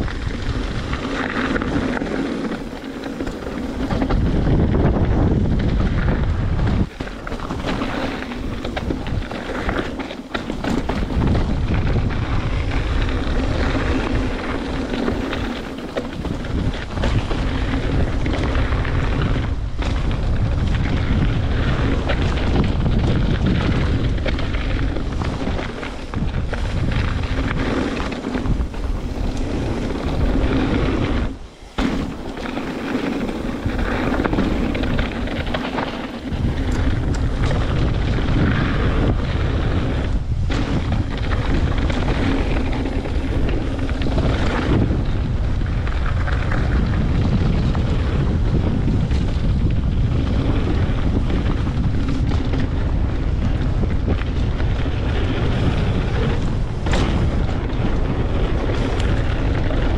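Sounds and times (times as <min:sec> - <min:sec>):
bike rattling and knocking: 0:00.0 - 0:59.9
tyres rumbling over rough trail: 0:00.0 - 0:59.9
wind buffeting microphone: 0:00.0 - 0:59.9.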